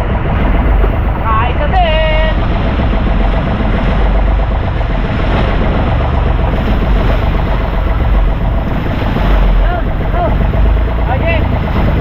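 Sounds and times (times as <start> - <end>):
boat engine running: 0.0 - 12.0
water rushing: 0.0 - 12.0
wind: 0.0 - 12.0.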